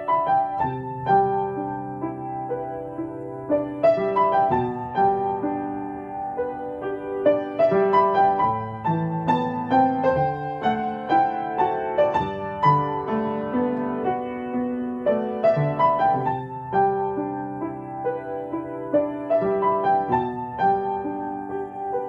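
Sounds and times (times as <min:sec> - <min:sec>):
slow solo piano piece: 0:00.0 - 0:22.0.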